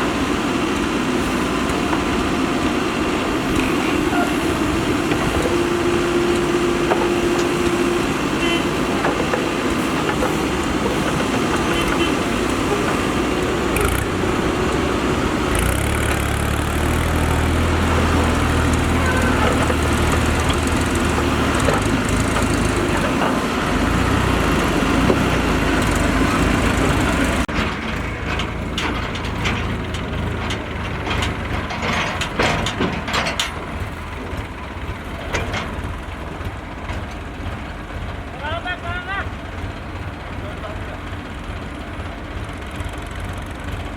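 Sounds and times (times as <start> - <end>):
diesel machinery engine hum: 0.0 - 43.9
irregular knocks and clanks: 3.4 - 43.9.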